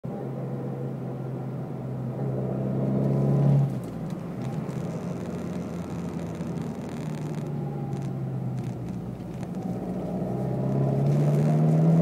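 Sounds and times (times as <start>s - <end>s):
car engine droning under load: 0.0s - 12.0s.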